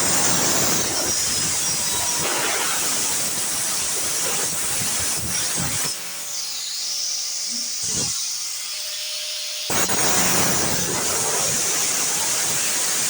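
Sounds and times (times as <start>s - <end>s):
angle grinder cutting metal: 0.0s - 13.0s.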